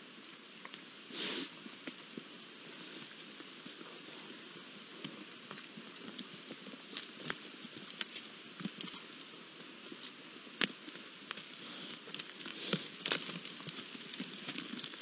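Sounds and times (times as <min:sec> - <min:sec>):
steady hiss: 0:00.0 - 0:15.0
hooves clicking on stones: 0:01.6 - 0:15.0.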